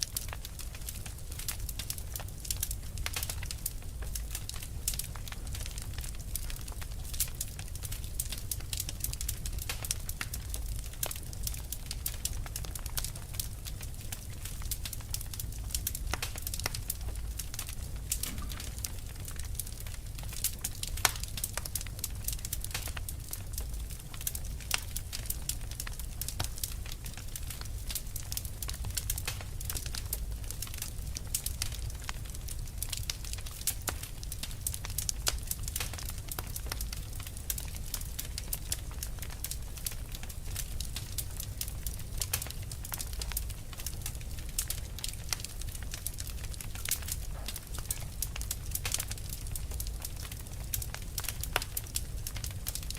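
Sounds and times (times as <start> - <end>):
fire crackling and popping: 0.0 - 52.9
low fire rumble: 0.0 - 52.9.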